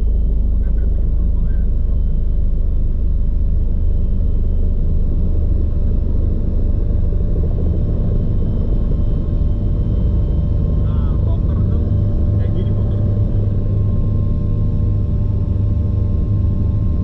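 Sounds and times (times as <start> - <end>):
faint helicopter whine: 0.0 - 17.0
helicopter low rumble: 0.0 - 17.0.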